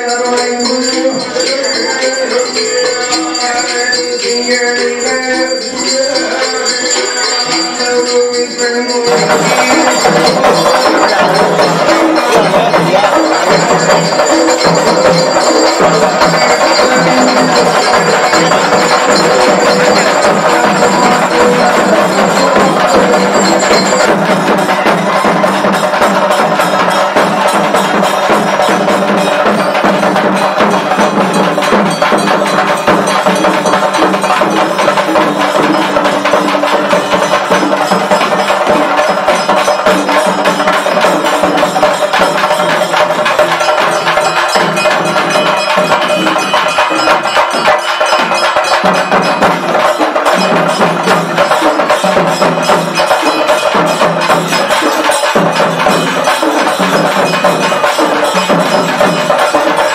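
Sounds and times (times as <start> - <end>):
bells ringing: 0.0 - 59.9
fast dense percussion: 0.0 - 59.9.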